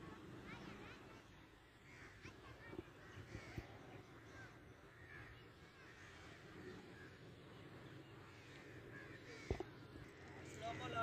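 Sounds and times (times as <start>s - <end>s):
faint bird calls: 0.5s - 11.0s.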